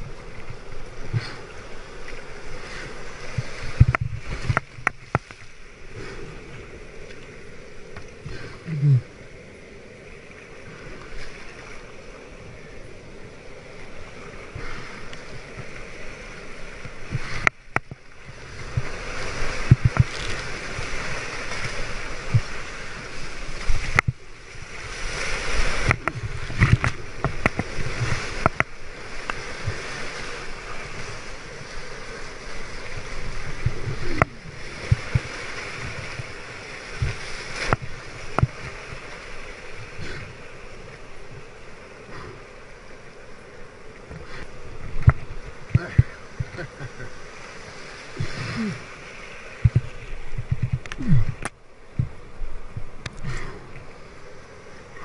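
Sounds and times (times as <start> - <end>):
water splashing on kayak: 0.0 - 8.6, 9.2 - 55.0
surf whitewater rushing and hissing: 0.0 - 55.0.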